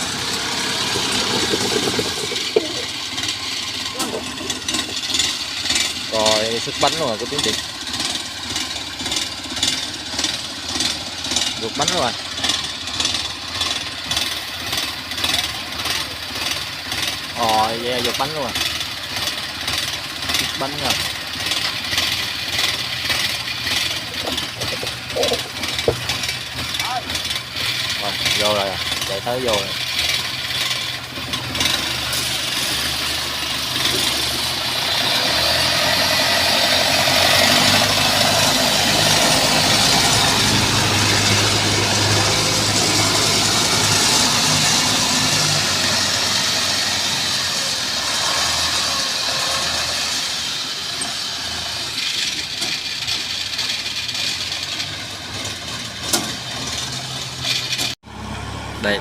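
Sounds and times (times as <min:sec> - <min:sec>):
combine harvester engine and threshing: 0:00.0 - 0:59.0.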